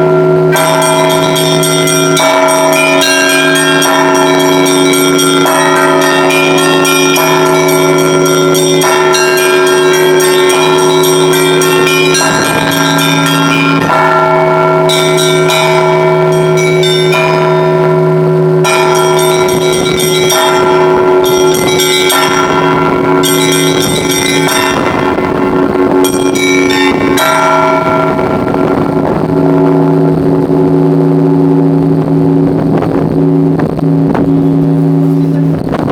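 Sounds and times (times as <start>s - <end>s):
rapid chimes of small bells: 0.0s - 31.8s
deep hum of large bells: 0.0s - 35.9s.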